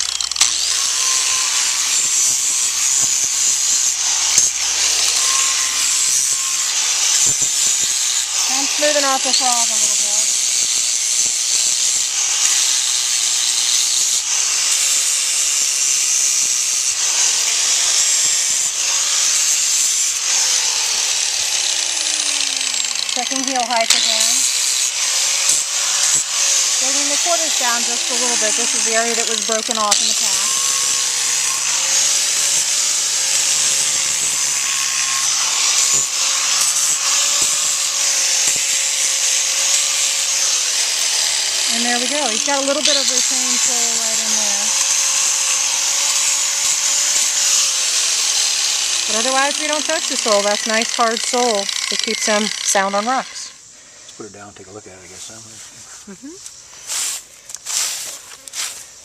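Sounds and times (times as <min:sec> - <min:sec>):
power grinder grinding hoof: 0:00.0 - 0:59.0.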